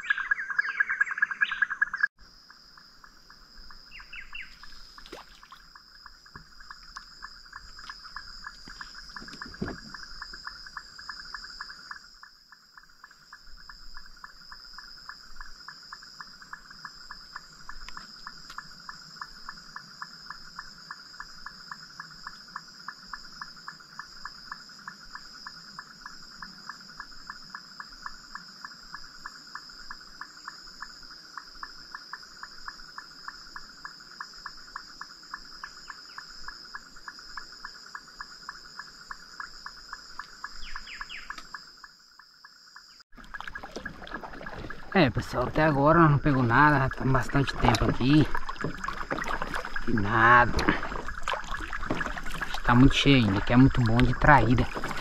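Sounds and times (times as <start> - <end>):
insects droning and chirping: 0.0 - 55.0.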